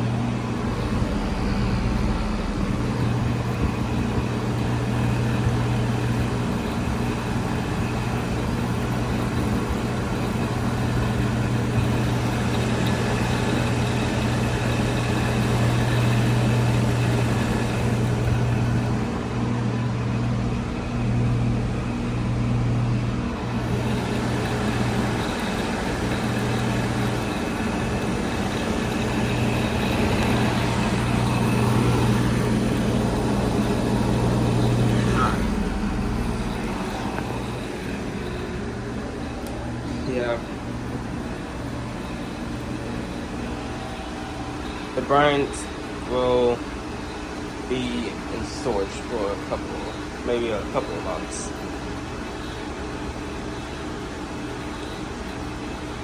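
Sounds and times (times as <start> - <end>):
heat pump compressor hum: 0.0 - 56.0.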